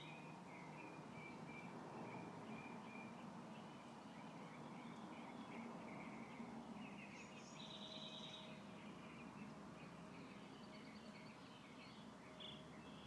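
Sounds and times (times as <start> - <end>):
faint birds chirping: 0.0 - 13.0
low background hiss: 0.0 - 13.0.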